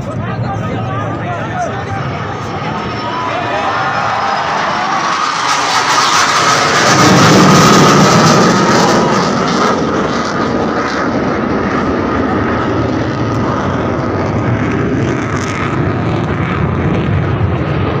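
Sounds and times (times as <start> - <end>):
fighter jets flying overhead: 0.0 - 18.0.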